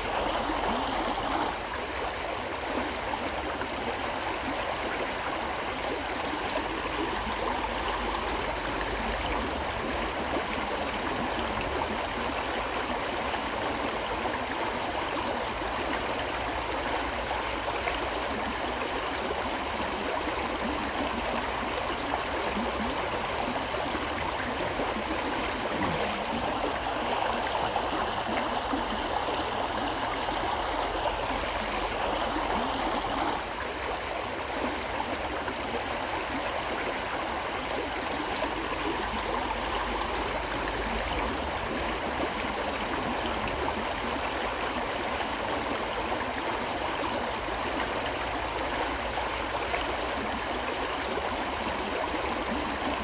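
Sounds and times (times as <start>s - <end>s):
river flowing: 0.0s - 53.0s.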